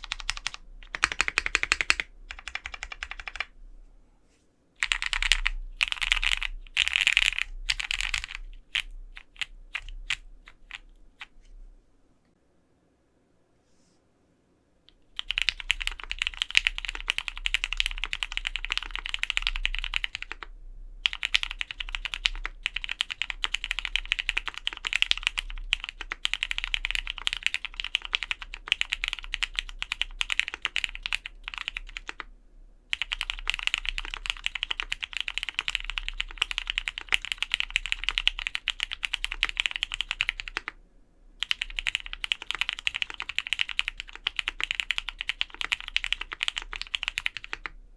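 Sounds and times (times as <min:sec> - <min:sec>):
fast typing on mechanical keyboard: 0:00.0 - 0:03.5, 0:04.8 - 0:11.3, 0:15.2 - 0:32.3, 0:32.9 - 0:40.8, 0:41.4 - 0:47.7.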